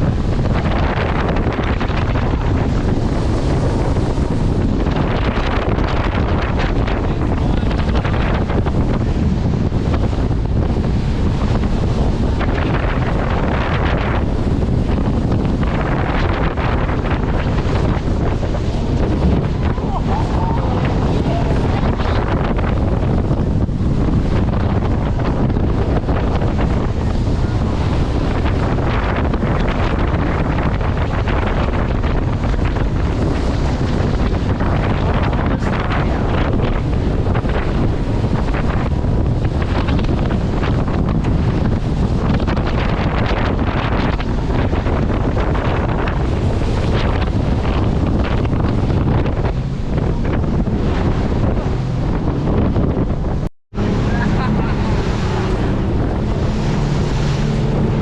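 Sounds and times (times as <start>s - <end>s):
heavy low rumble: 0.0s - 58.0s
wind buffeting microphone: 0.0s - 58.0s.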